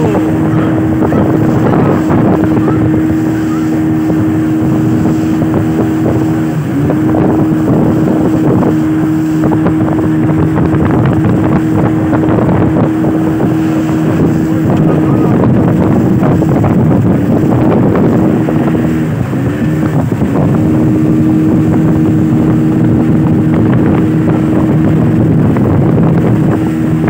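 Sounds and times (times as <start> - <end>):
motorboat engine droning: 0.0 - 27.0
wind and water rushing: 0.0 - 27.0.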